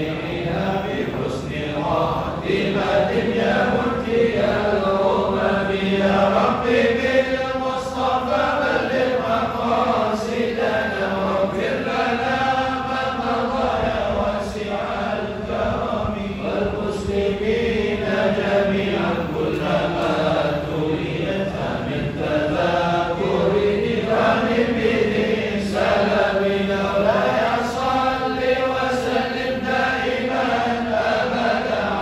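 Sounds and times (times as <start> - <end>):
congregation chanting: 0.0 - 32.0.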